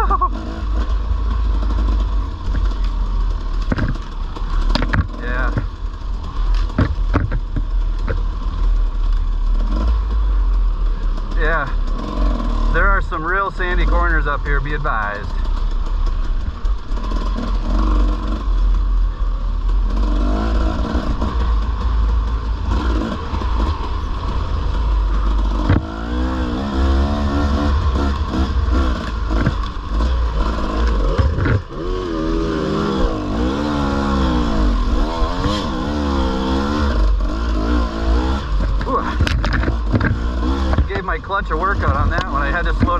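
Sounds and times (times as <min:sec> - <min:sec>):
dirt bike engine revving: 0:00.0 - 0:42.9
steady low rumble: 0:00.0 - 0:42.9.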